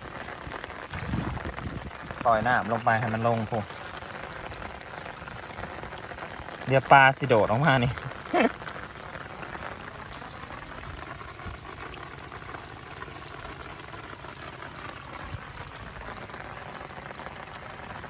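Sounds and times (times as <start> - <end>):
heavy rain falling: 0.0 - 18.0
raindrops ticking: 0.0 - 18.0.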